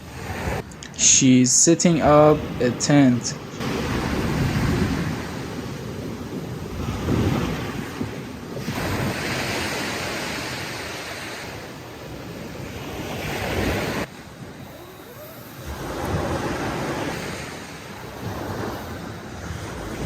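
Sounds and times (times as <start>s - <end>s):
sea waves washing onto shore: 1.8s - 20.0s.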